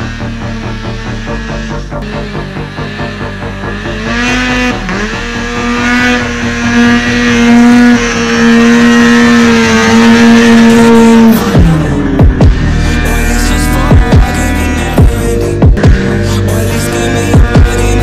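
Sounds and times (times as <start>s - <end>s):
snowmobile engine passing by: 0.0s - 18.0s.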